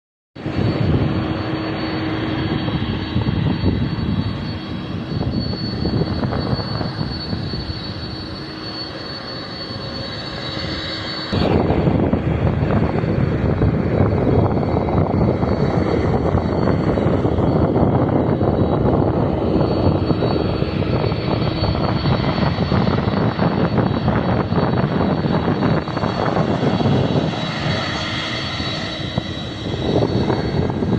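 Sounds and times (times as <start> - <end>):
jet engines whining: 0.4 - 30.9.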